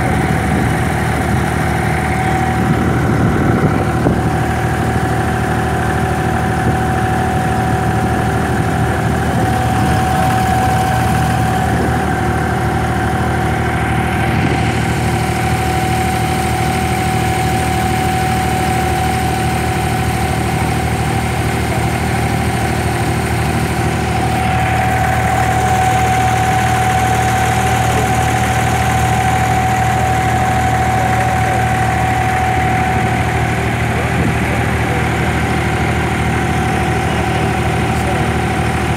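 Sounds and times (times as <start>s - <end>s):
boat engine running: 0.0s - 38.9s
high whine: 0.0s - 38.9s.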